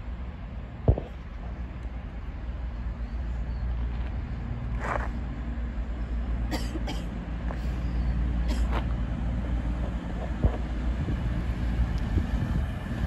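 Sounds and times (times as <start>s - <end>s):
diesel train engines droning: 0.0s - 13.0s.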